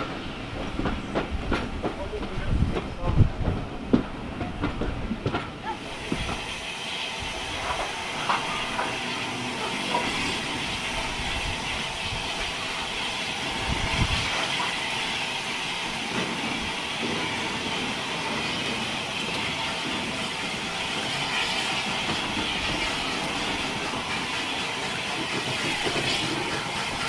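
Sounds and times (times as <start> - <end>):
steam hissing: 0.0 - 27.0.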